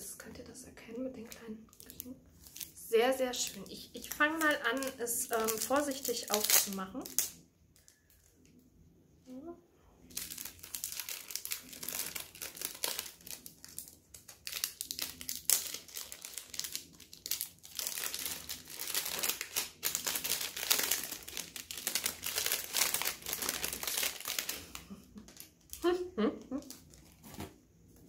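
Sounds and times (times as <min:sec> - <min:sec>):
plastic gift wrap crinkling: 0:00.7 - 0:08.5, 0:10.0 - 0:27.6.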